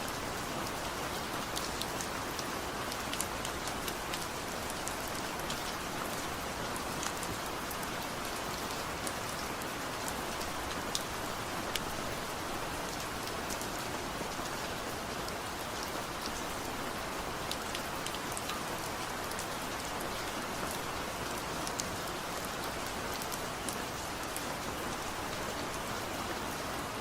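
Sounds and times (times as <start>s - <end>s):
light rain falling: 0.0s - 27.0s.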